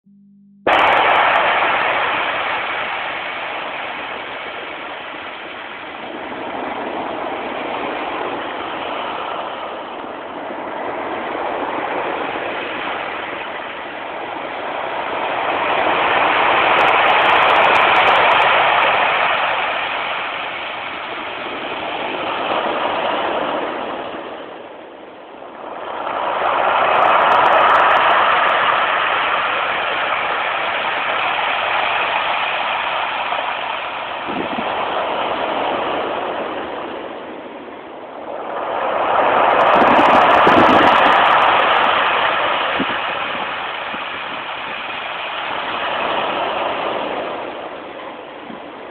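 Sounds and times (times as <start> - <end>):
ocean surf breaking: 0.6 - 48.9.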